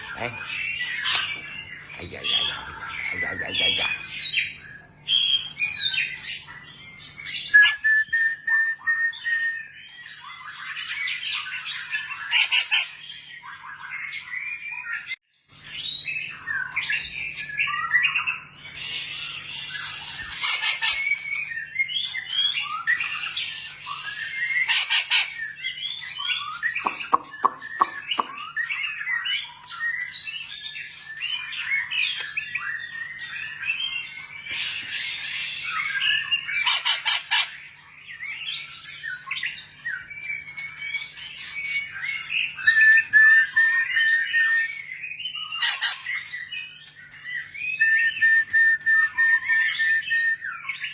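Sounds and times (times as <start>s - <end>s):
bird singing whistles and trills: 0.0s - 50.9s.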